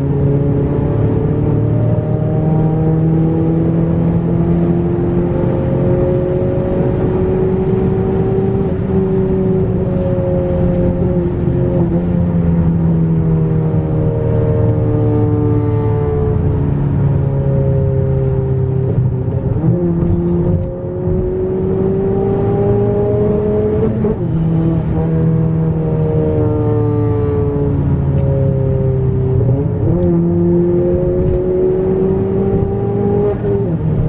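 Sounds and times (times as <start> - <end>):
car engine and exhaust driving: 0.0 - 34.0.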